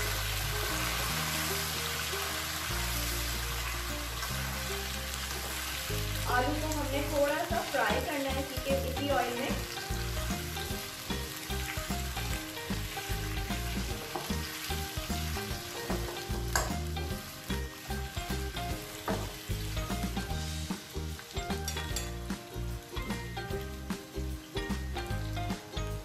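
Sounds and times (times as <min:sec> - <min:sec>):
potato slices sizzling in oil: 0:00.0 - 0:26.0.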